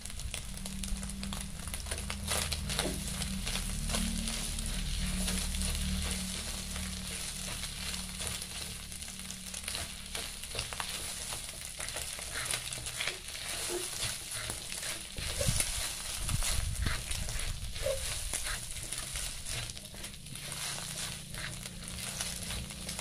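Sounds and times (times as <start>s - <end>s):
food sizzling in hot oil: 0.0s - 23.0s
spatula scraping and tapping pan: 1.3s - 23.0s.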